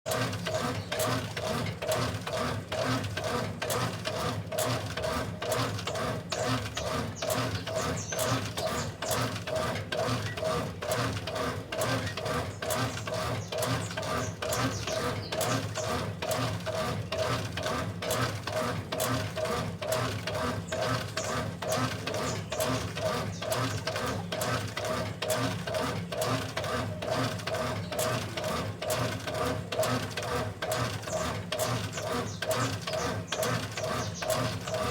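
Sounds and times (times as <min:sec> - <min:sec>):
washing machine motor hum: 0:00.1 - 0:34.9.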